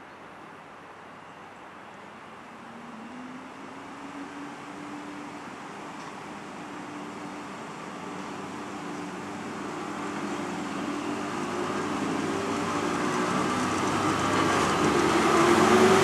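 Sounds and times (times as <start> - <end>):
electric locomotive humming: 0.0 - 16.0.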